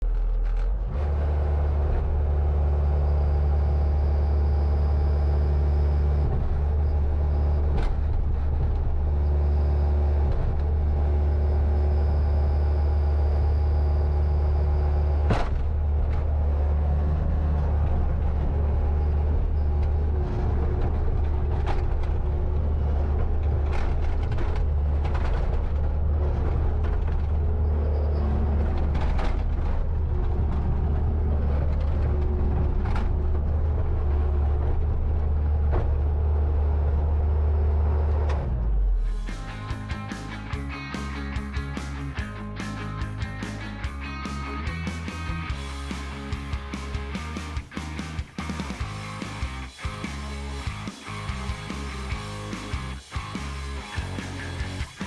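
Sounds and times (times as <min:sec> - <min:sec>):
track loader diesel engine running: 0:00.0 - 0:55.0.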